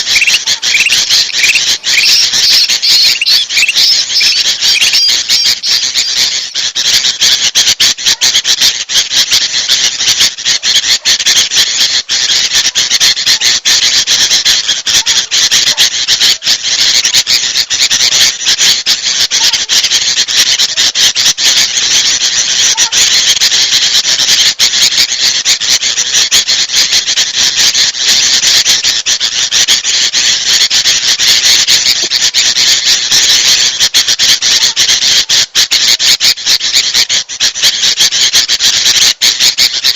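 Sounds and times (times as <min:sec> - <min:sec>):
bulbuls scolding chatter: 0:00.0 - 0:39.9.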